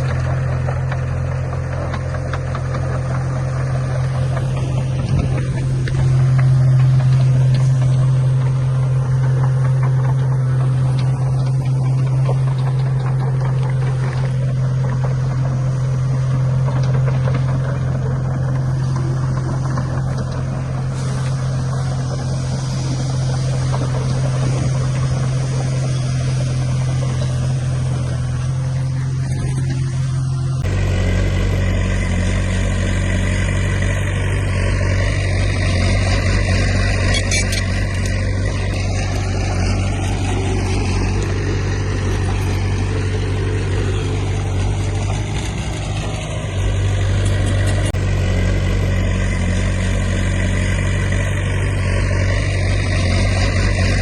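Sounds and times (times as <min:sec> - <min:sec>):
heavy diesel machinery engine: 0:00.0 - 0:54.0.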